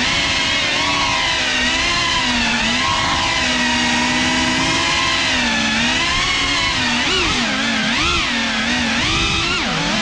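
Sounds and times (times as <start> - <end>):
drone motors and propellers whining: 0.0 - 10.0.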